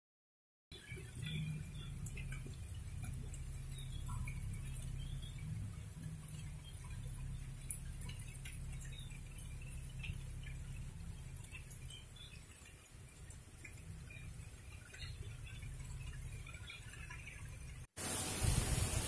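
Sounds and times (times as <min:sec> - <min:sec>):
rain dripping on leaves: 0:00.8 - 0:19.0
steady low rumble: 0:00.8 - 0:19.0.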